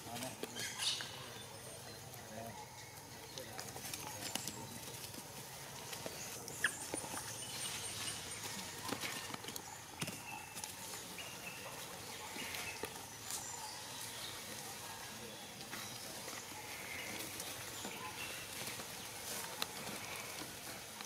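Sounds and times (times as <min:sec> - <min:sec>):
dry leaves rustling: 0:00.0 - 0:21.0.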